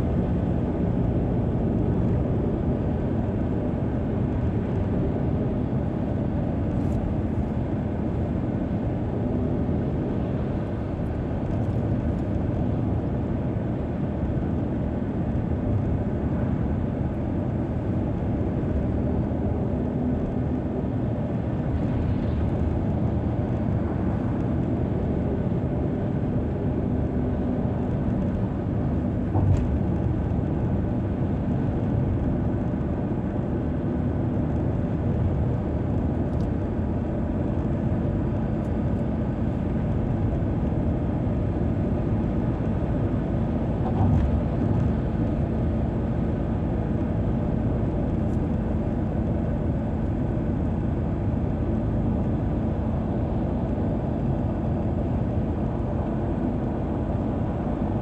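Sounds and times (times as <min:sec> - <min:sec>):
car road noise: 0:00.0 - 0:58.0.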